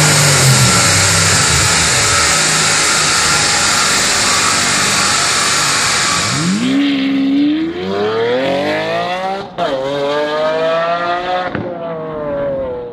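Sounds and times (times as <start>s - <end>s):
car engine accelerating hard: 0.0s - 12.9s.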